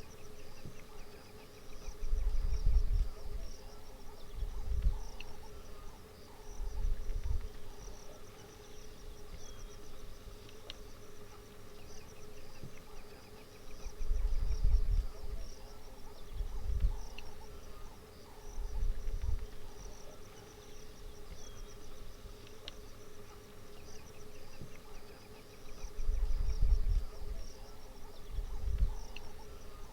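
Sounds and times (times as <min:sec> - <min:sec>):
insects chirping: 0:00.0 - 0:29.9.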